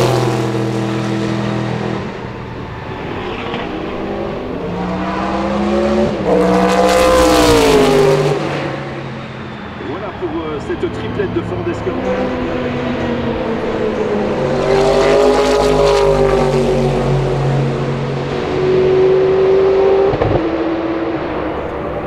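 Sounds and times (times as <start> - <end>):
racing car engine passing: 0.0 - 22.0.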